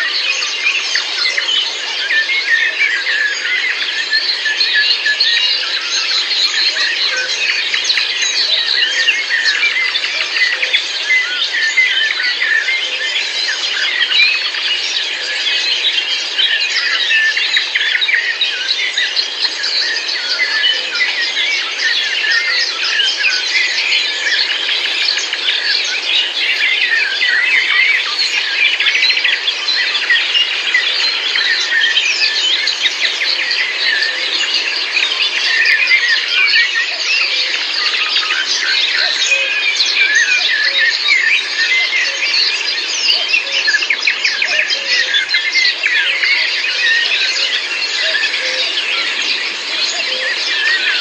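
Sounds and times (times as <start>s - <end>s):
birds chirping and whistling: 0.0s - 51.0s.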